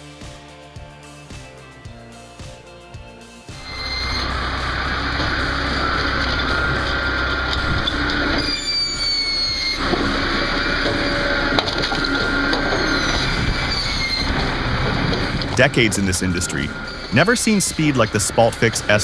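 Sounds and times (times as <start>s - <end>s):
firewood processor splitting logs: 3.6s - 19.0s.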